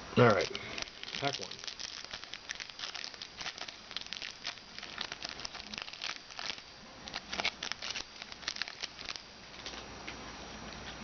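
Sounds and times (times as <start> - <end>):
plastic wrapper crinkling and tearing: 0.2 - 9.8.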